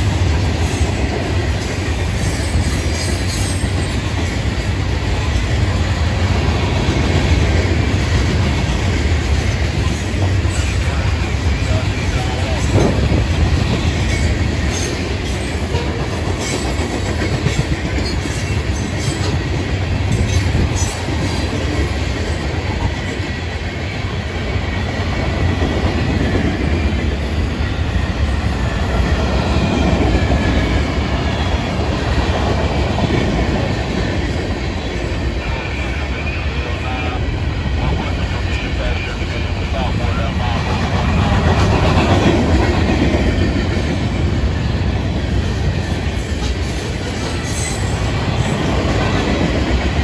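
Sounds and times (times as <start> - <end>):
train wheels rumbling and clacking: 0.0 - 50.0.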